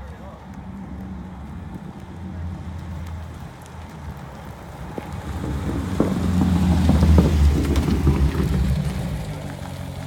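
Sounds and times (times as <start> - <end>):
car engine deep rumble: 0.2 - 10.0.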